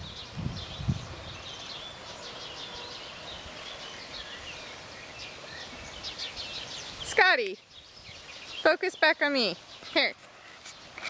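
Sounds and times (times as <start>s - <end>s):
birds chirping: 0.0s - 11.0s
steady outdoor hiss: 0.0s - 11.0s.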